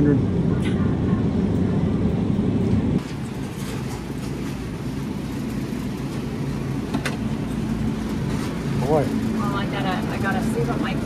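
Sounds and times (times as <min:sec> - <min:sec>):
refrigerator and ventilation hum: 0:00.0 - 0:11.0.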